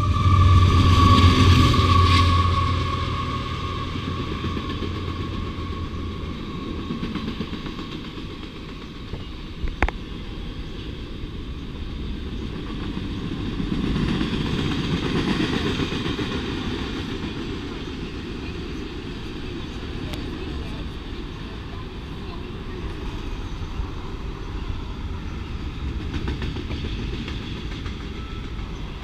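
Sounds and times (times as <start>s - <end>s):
diesel locomotive drone: 0.0s - 29.0s
freight train rolling on rails: 0.0s - 29.0s.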